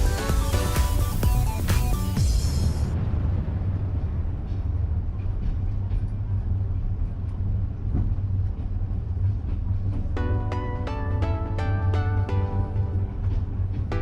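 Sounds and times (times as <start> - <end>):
train rumbling along tracks: 0.0 - 14.0.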